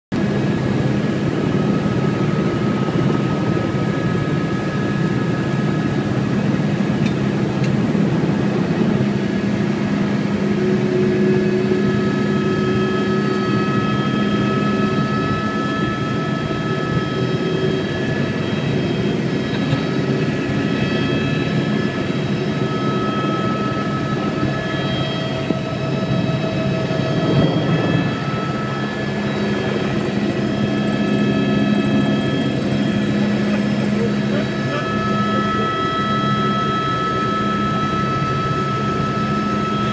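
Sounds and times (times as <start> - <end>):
helicopter engine and rotor drone: 0.1 - 39.9.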